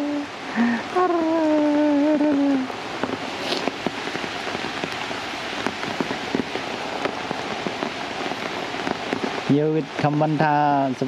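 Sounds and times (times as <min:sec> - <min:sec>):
heavy rain on wet ground: 0:00.0 - 0:11.0.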